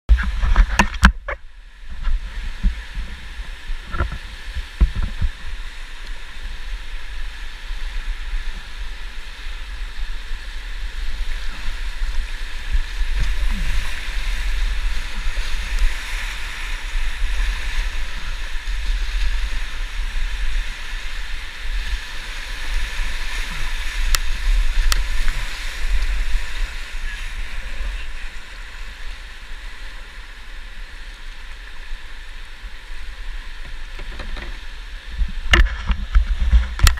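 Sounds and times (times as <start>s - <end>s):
whitewater rapids rushing: 2.0s - 34.0s.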